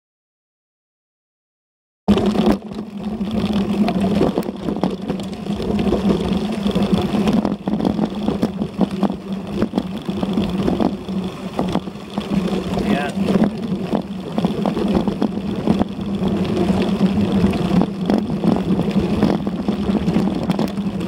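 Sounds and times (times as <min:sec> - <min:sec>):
bike knocks and rattles: 0:02.1 - 0:21.0
tyre and wind rumble: 0:02.1 - 0:21.0.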